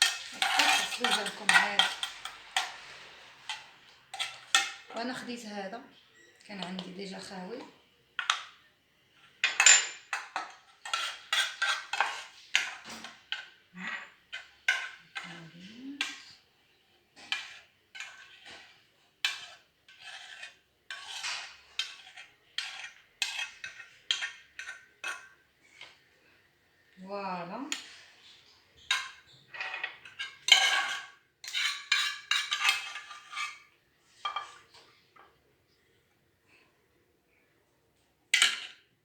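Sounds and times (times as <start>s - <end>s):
spoon scraping a pan: 0.0s - 5.6s, 6.2s - 8.6s, 9.2s - 26.1s, 27.7s - 35.4s, 38.4s - 38.9s.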